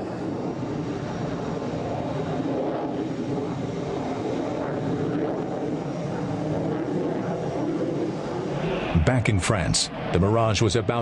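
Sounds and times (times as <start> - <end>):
jet fighter flying past: 0.0 - 11.0.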